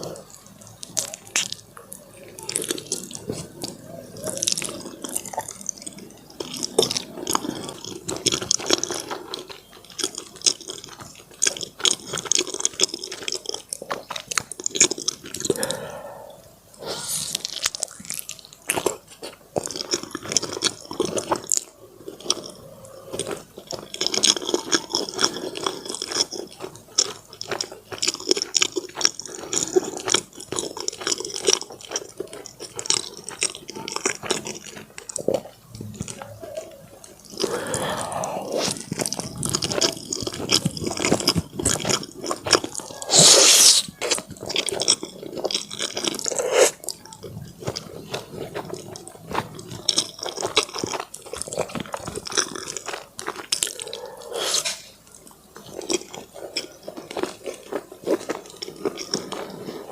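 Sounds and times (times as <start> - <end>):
wet chewing and lip-smacking: 0.0 - 59.9.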